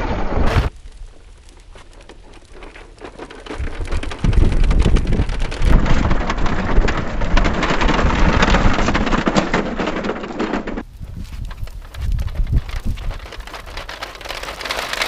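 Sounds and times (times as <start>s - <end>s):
toy truck wheels rolling on paving: 0.7s - 15.0s.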